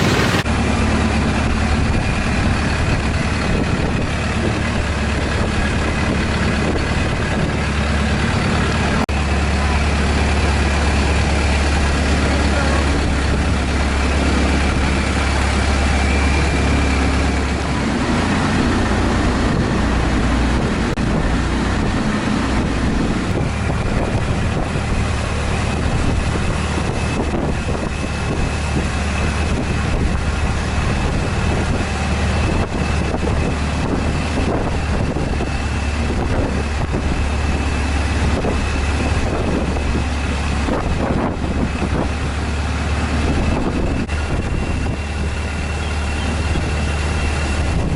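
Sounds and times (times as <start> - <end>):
boat engine droning: 0.0 - 47.9.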